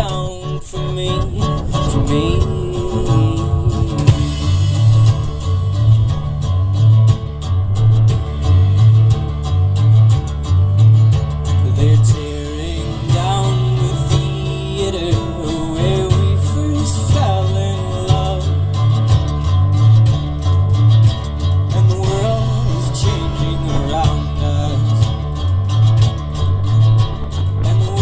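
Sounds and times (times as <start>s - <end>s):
pulsing bass line: 0.0s - 28.0s
strummed acoustic guitar: 0.0s - 28.0s.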